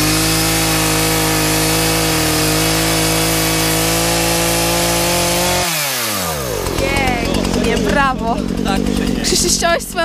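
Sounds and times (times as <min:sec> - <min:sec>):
chainsaw cutting wood: 0:00.0 - 0:10.0.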